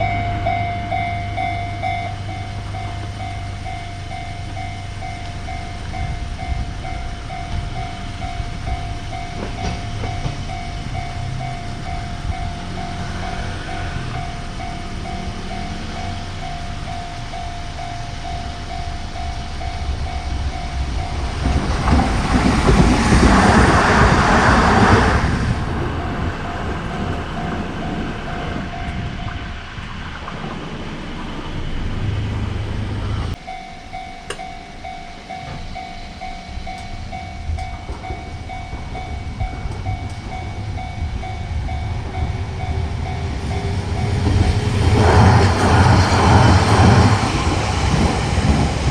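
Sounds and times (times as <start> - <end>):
level crossing warning bell: 0.0 - 30.0, 33.3 - 48.9
tram rumbling: 0.0 - 48.9.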